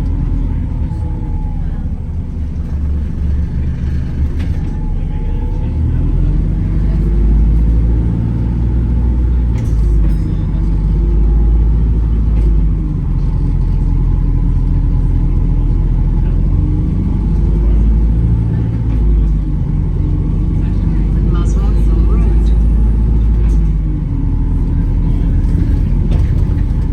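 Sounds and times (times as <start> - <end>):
bus engine rumbling: 0.0 - 26.9.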